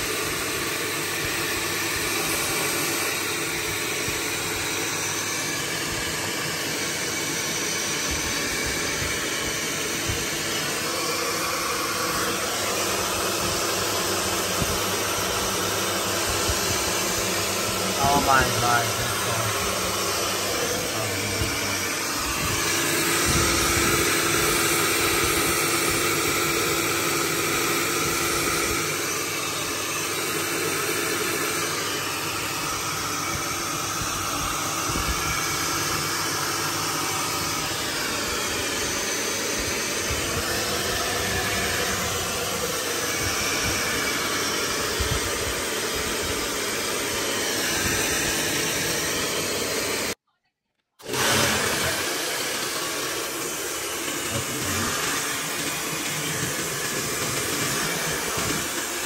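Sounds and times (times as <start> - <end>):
hair dryer blowing: 0.0 - 50.2, 51.0 - 59.0.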